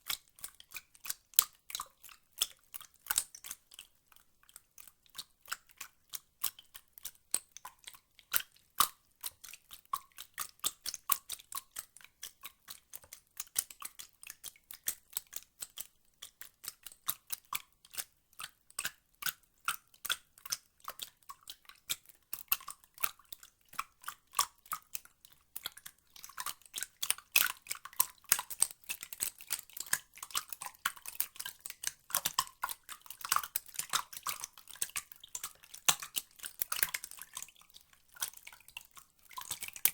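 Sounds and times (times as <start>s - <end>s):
water dripping and splashing: 0.0s - 39.9s.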